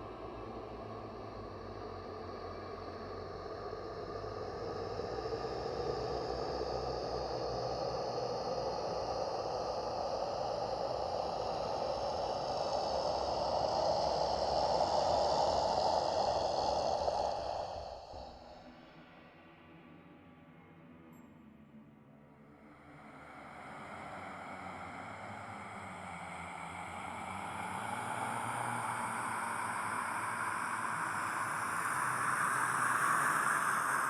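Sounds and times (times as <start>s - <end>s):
airy hissing drone: 0.0s - 18.8s, 22.6s - 34.0s.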